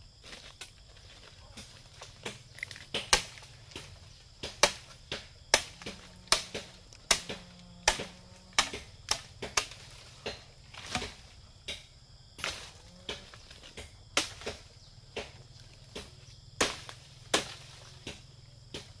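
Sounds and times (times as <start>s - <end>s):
blade chopping bamboo: 1.6s - 19.0s.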